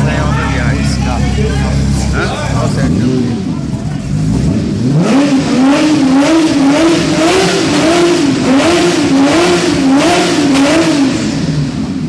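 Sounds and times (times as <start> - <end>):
sports car engine revving: 0.0 - 12.0.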